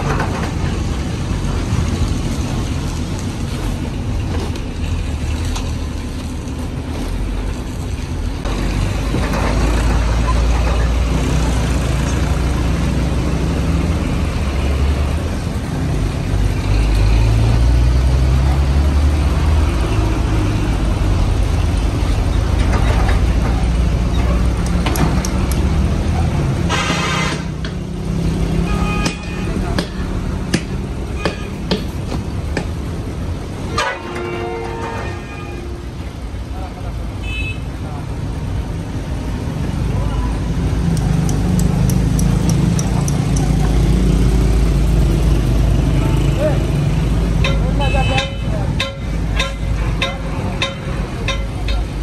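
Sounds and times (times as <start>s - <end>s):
heavy vehicle engine rumbling: 0.0s - 52.0s.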